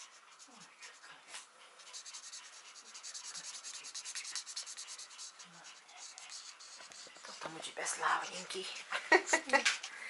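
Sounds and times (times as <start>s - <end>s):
pen scribbling on paper: 0.0s - 1.0s, 1.8s - 8.9s.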